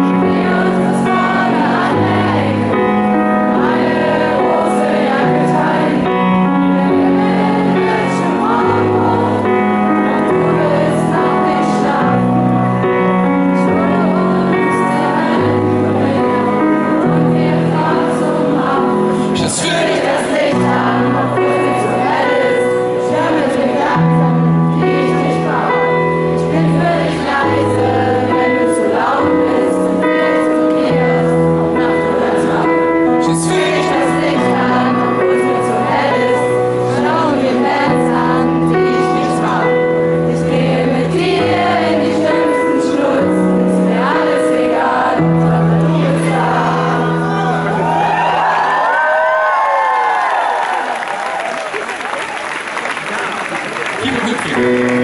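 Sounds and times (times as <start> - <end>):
crowd singing along: 0.0 - 51.0, 54.0 - 55.0.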